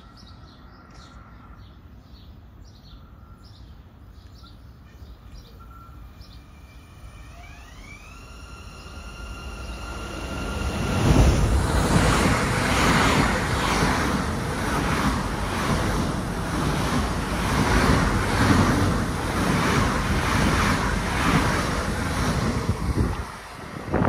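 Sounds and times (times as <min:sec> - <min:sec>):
train passing close by: 0:00.0 - 0:04.2, 0:04.8 - 0:24.0.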